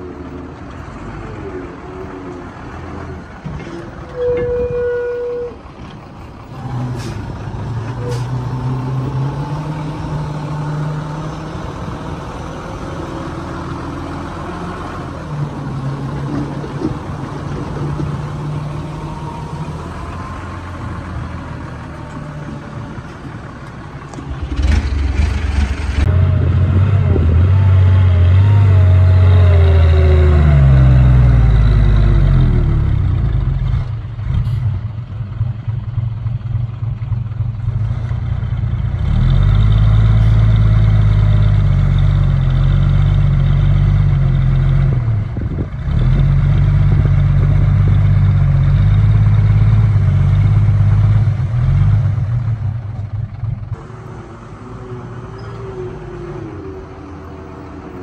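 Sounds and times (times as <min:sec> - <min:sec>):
bulldozer diesel engine working: 0:00.0 - 0:58.0.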